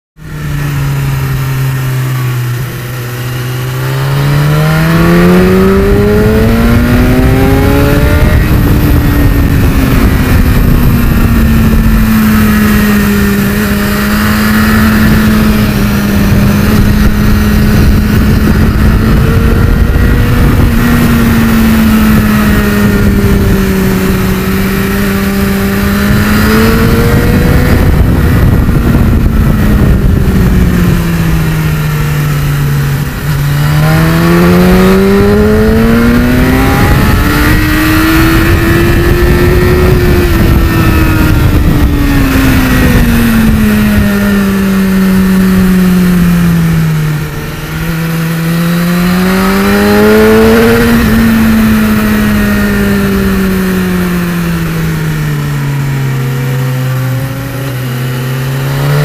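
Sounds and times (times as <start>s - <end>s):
motorcycle engine revving: 0.2s - 59.0s
wind rush: 0.2s - 59.0s.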